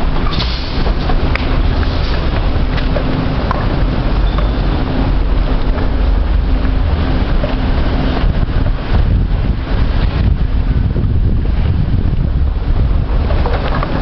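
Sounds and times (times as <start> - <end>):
escalator machinery rumble: 0.0 - 14.0.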